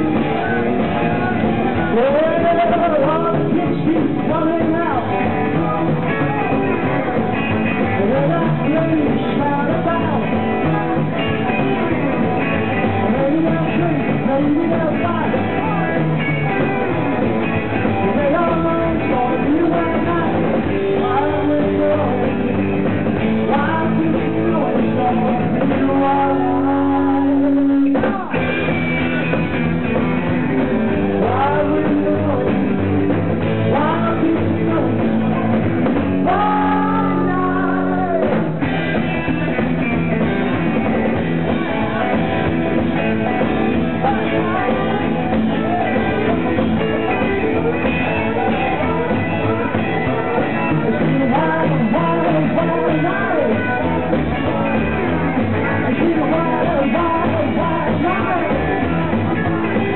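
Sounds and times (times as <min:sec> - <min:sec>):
man singing: 0:00.0 - 0:28.4, 0:30.8 - 0:33.0, 0:33.6 - 0:39.5, 0:40.8 - 0:59.9
drum kit: 0:00.0 - 0:59.9
electric guitars: 0:00.0 - 0:59.9.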